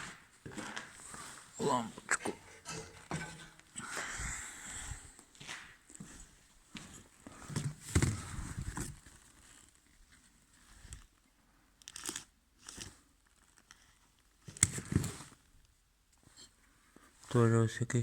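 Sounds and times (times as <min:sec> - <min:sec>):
rustling and handling noises: 0:00.0 - 0:04.1, 0:05.2 - 0:17.5.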